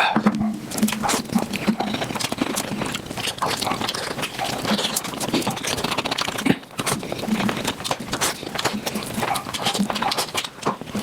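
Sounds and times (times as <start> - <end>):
sped-up chewing and smacking: 0.3 - 11.0.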